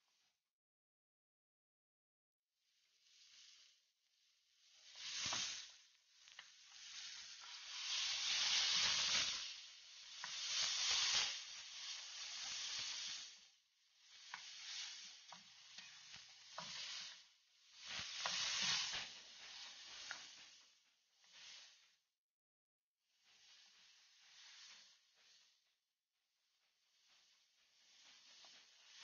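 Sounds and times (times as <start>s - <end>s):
food sizzling in a wok: 2.7s - 22.0s, 23.1s - 25.7s, 26.7s - 29.0s.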